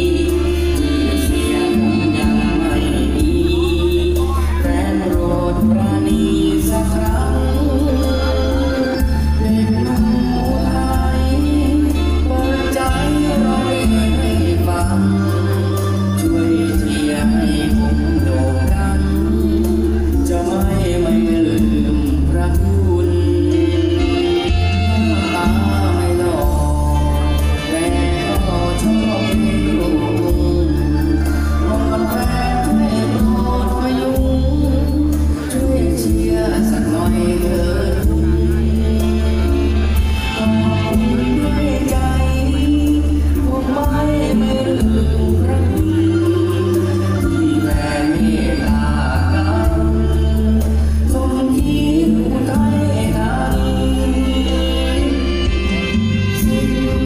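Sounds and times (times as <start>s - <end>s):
drums: 0.0s - 57.0s
keyboard: 0.0s - 57.0s
live band music: 0.0s - 57.0s
low bass line: 0.0s - 57.0s
man singing into a microphone: 0.0s - 57.0s.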